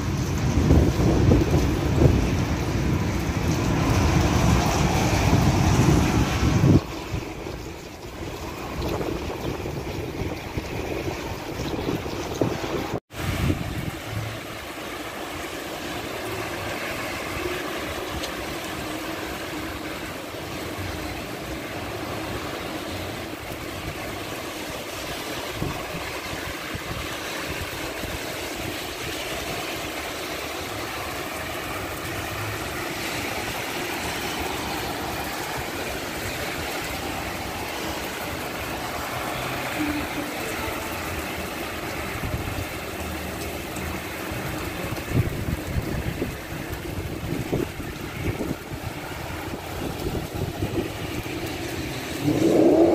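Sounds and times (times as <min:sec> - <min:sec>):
car tyres on wet road: 0:00.0 - 0:52.9
rain hissing: 0:00.0 - 0:52.9
traffic rumble: 0:00.0 - 0:52.9.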